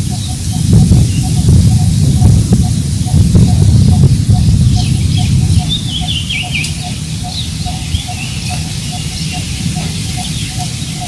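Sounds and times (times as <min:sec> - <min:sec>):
small birds chirping: 0:00.0 - 0:11.0
wind buffeting microphone: 0:00.0 - 0:11.0.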